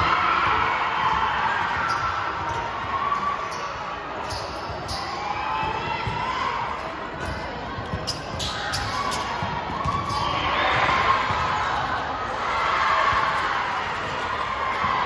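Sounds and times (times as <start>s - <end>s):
crowd voices and calls: 0.0s - 15.0s.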